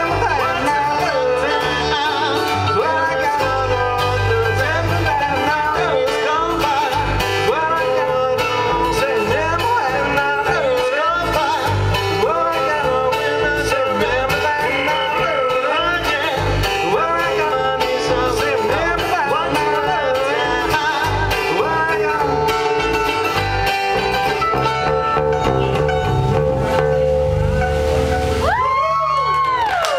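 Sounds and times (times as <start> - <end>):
man singing: 0.0 - 24.9
bluegrass band playing: 0.0 - 29.9.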